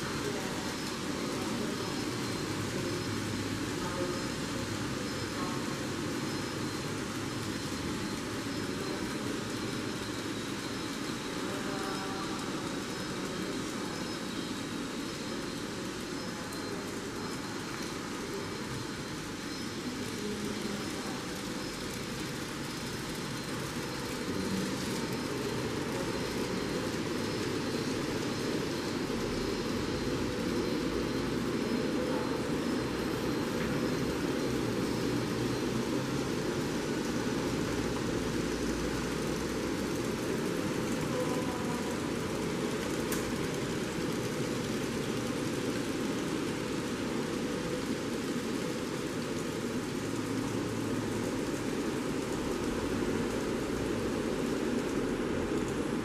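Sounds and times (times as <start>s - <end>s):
steady hiss and hum: 0.0s - 56.0s.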